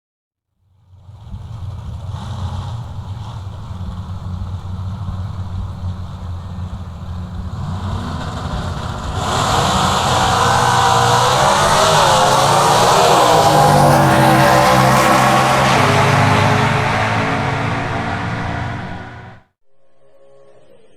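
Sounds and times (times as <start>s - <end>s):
drag car engine revving: 0.7s - 19.5s.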